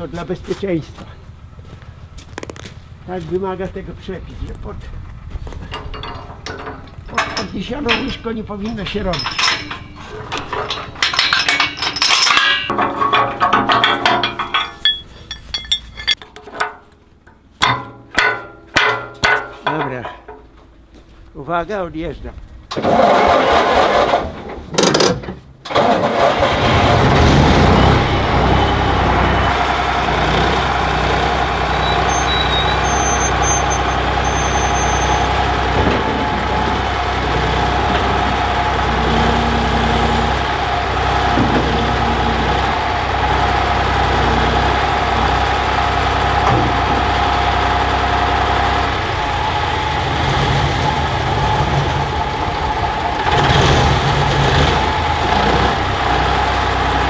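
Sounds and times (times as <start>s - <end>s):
excavator diesel engine running: 0.0s - 16.2s, 25.7s - 57.0s.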